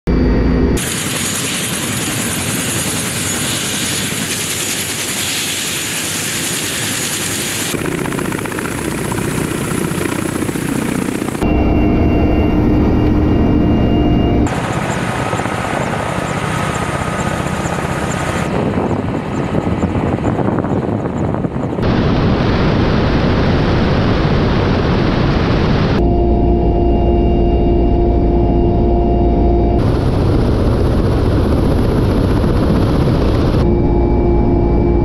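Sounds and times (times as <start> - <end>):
helicopter rotors and engines: 0.1 - 35.0
turbine whine: 0.1 - 35.0.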